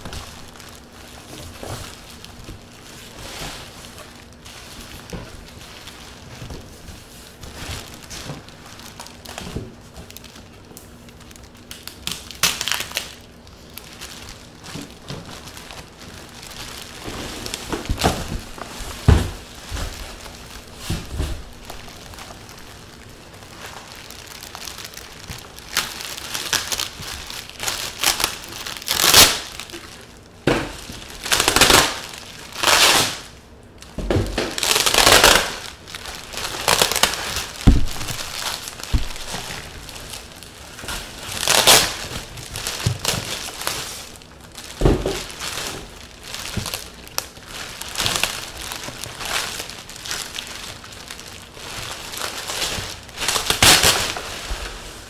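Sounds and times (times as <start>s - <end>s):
plastic and bubble wrap crinkling: 0.0s - 55.0s.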